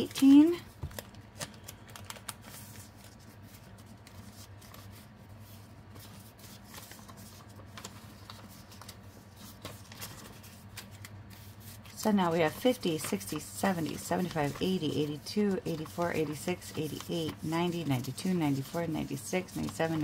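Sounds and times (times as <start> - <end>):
banknotes rustling and flicking: 0.0 - 20.0.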